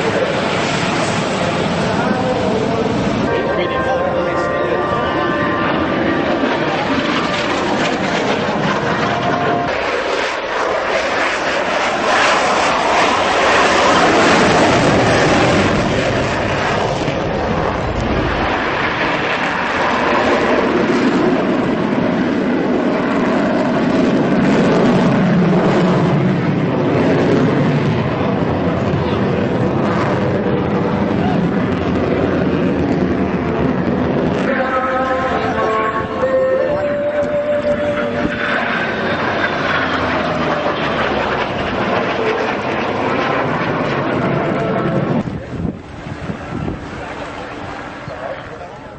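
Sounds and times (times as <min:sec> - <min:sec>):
military aircraft engines rushing: 0:00.0 - 0:48.9.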